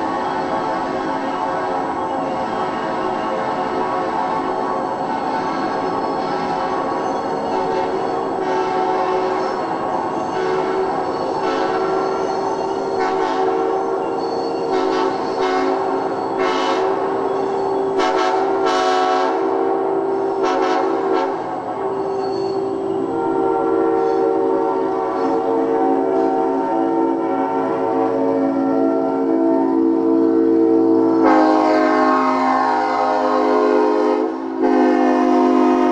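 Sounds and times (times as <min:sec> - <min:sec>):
locomotive air horn chord: 0:00.0 - 0:35.9.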